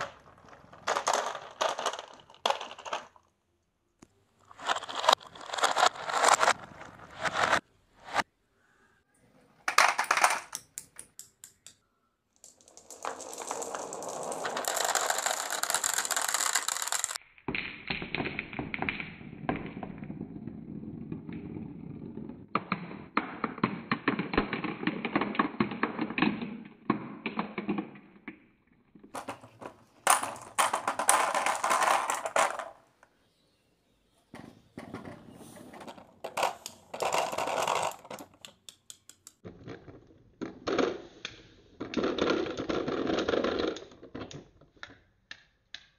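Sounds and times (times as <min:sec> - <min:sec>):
balls and marbles rolling and clattering: 0:00.0 - 0:08.3, 0:09.6 - 0:33.1, 0:34.3 - 0:45.9.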